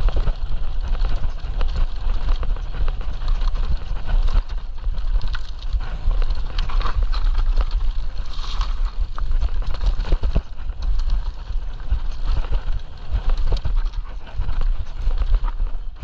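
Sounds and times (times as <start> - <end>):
tyres crunching over loose rock: 0.0 - 15.8
low rumble: 0.0 - 16.0.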